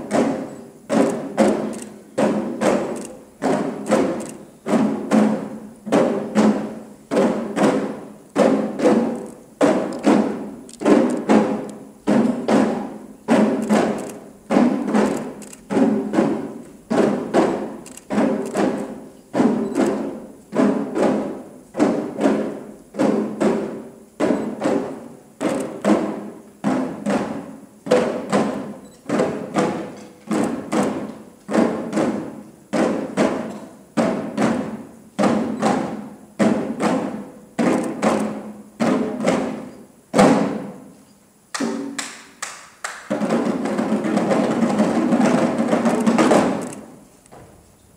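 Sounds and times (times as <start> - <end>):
drum beat ringing: 0.0 - 40.9, 43.0 - 46.9.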